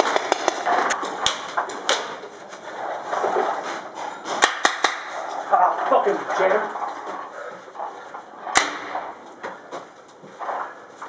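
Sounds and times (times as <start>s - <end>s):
rough background noise: 0.0s - 11.0s.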